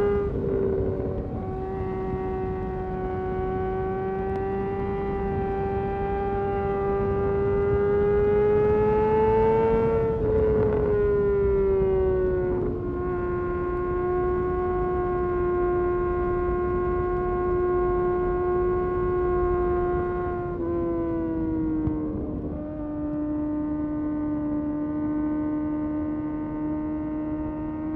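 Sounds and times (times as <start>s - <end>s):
motorcycle engine at high revs: 0.0s - 27.9s.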